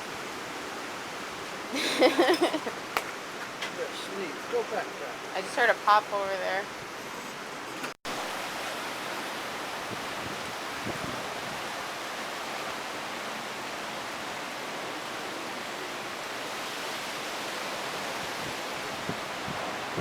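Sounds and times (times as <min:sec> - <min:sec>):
hurricane wind roaring: 0:03.7 - 0:20.0.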